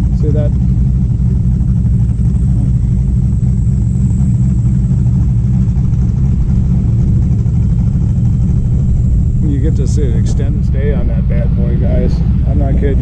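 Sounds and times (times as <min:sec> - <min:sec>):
low engine drone: 0:00.0 - 0:13.0
road rumble: 0:00.0 - 0:13.0.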